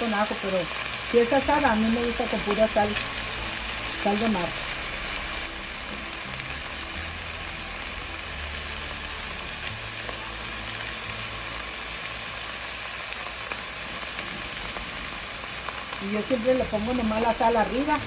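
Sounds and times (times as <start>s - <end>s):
steak sizzling in oil: 0.0s - 18.0s.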